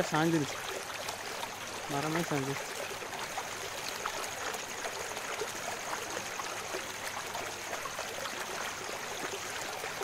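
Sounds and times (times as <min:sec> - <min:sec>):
runoff water rushing through ditch: 0:00.0 - 0:10.0
small water splashes: 0:00.0 - 0:10.0.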